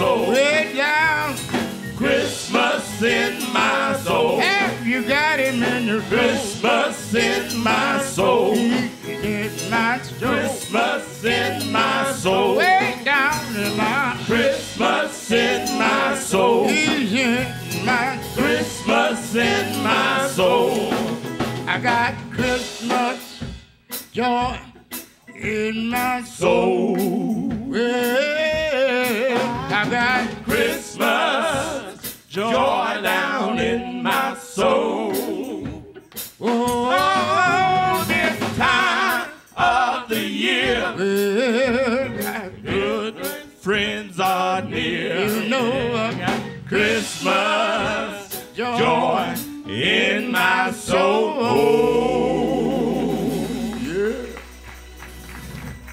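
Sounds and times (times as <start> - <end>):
men singing gospel: 0.0 - 23.5, 25.4 - 54.6
keyboard: 0.0 - 55.9.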